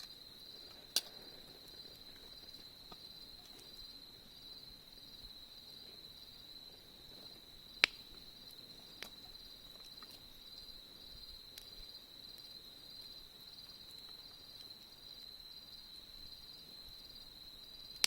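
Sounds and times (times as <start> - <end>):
campfire popping: 0.0 - 18.0
insects trilling: 0.0 - 18.0.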